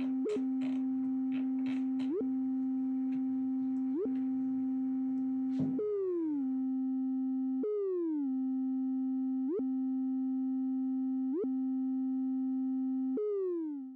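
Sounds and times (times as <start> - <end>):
synthesizer tone with pitch bends: 0.0 - 13.9.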